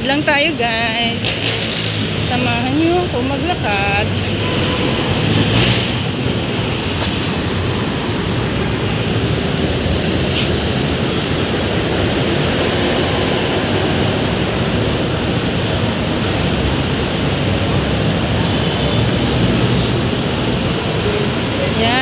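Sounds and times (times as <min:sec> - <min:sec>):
city road traffic noise: 0:00.0 - 0:22.0.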